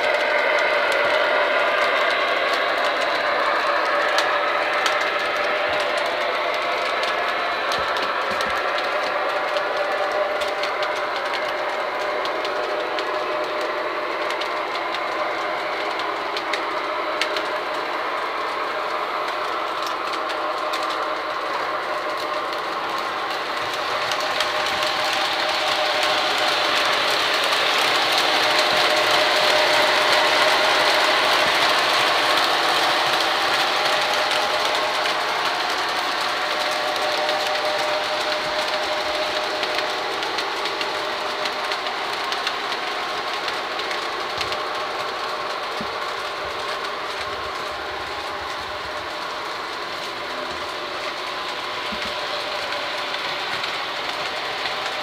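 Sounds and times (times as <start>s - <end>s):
model trains rattling and humming: 0.0s - 55.0s.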